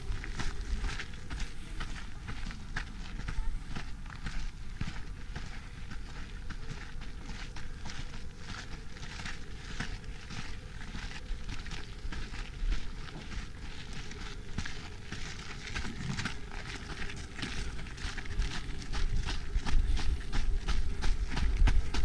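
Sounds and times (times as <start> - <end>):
running footsteps on gravel: 0.0 - 22.0
steady low rumble: 0.0 - 22.0.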